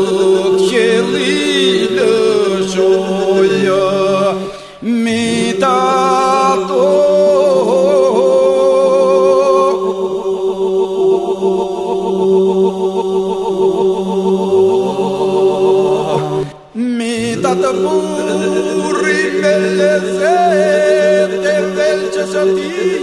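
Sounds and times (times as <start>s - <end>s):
wordless wavering sung melody: 0.0s - 23.0s.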